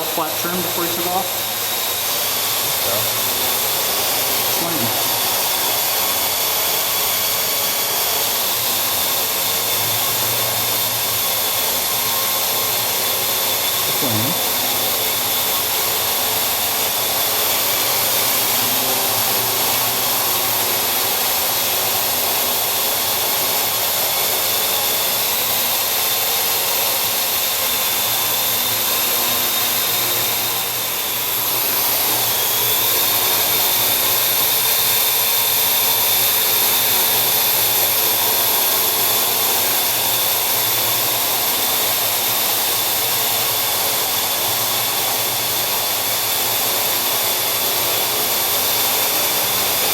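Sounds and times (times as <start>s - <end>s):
quadcopter propellers whirring: 0.0s - 49.9s.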